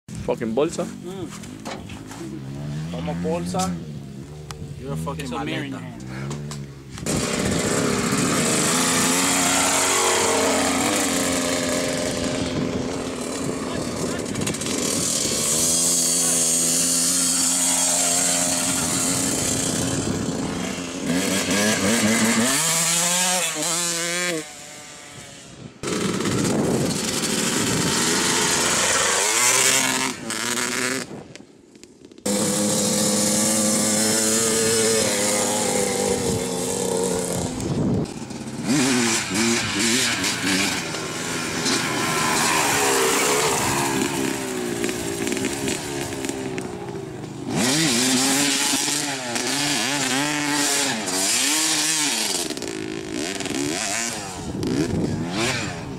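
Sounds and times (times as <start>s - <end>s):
dirt bike engine revving: 0.6s - 31.3s, 32.2s - 55.9s.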